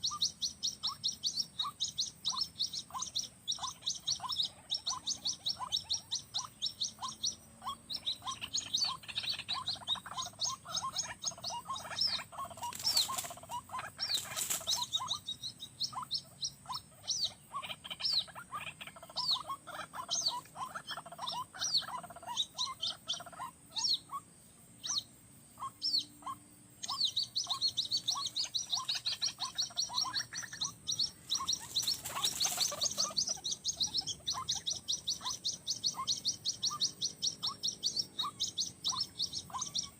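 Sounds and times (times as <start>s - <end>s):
waterhen calling: 0.0s - 24.2s, 25.6s - 39.9s
higher chattering bird calls: 0.0s - 39.9s.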